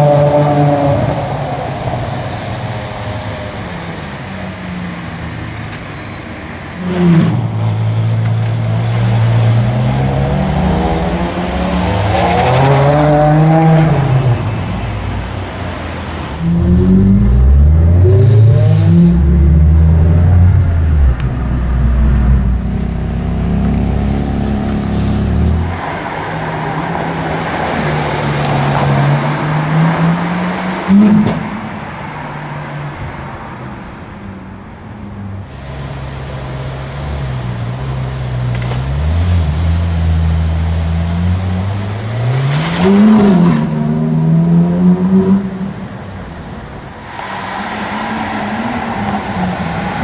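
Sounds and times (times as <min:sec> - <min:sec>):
sports car engines revving: 0:00.0 - 0:33.1, 0:35.3 - 0:50.0.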